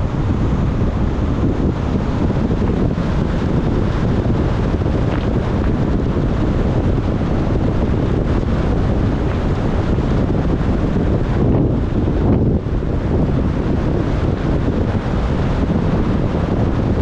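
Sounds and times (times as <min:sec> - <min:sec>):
car driving on wet road: 0:00.0 - 0:17.0
wind buffeting microphone: 0:00.0 - 0:17.0.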